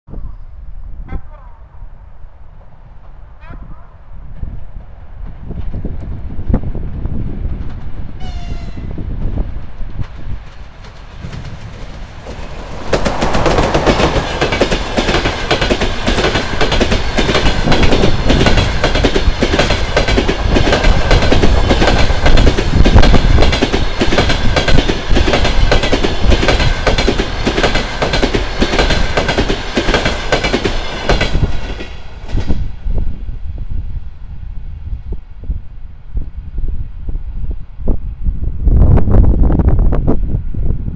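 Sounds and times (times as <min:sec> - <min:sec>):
train passing at speed: 0:00.2 - 0:40.9.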